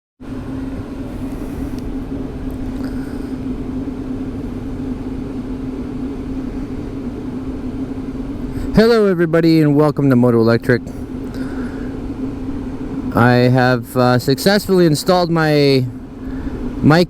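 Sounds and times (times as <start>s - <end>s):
road rumble: 0.2s - 17.0s
steady low hum: 0.2s - 17.0s.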